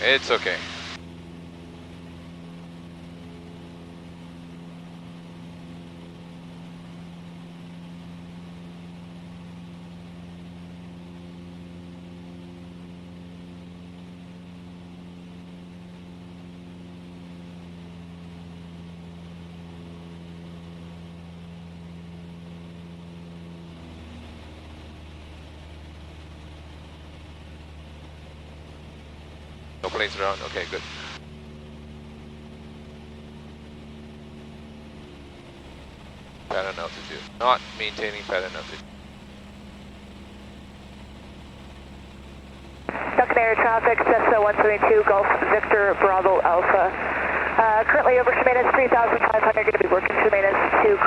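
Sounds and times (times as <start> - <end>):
propeller plane engine droning: 0.0 - 51.0.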